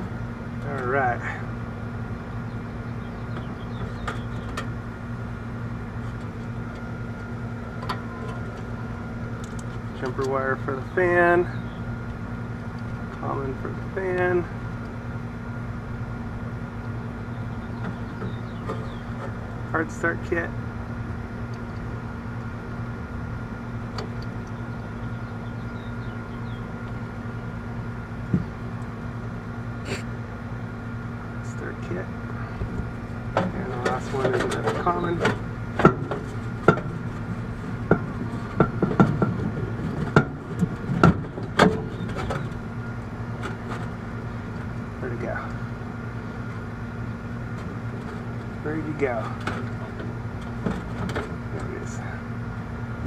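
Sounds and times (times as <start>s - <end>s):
machinery hum: 0.0s - 53.0s.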